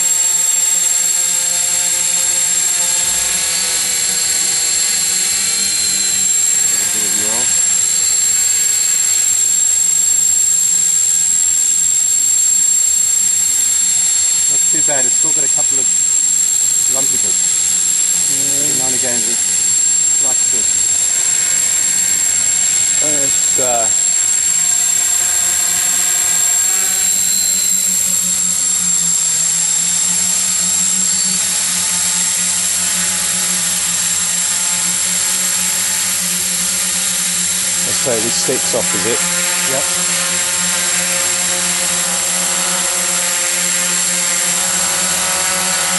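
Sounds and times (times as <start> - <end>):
drone motors whirring: 0.0 - 45.9.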